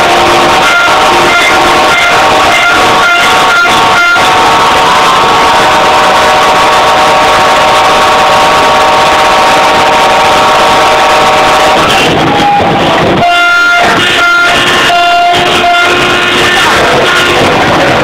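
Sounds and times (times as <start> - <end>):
horns blaring: 0.0 - 18.0.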